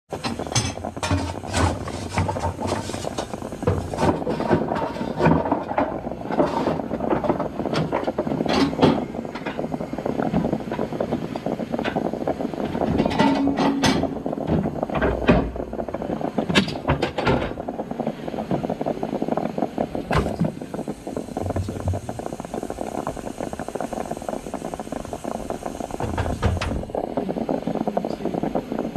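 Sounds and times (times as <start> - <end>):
steam train clanking: 0.1 - 28.9.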